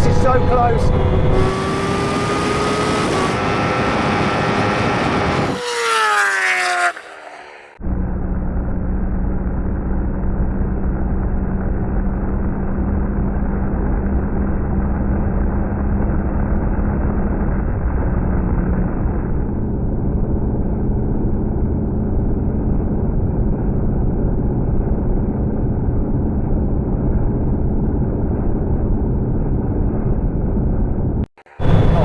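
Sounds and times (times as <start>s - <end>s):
vehicle drivetrain whine: 0.0s - 32.0s
wind and road noise: 0.0s - 32.0s.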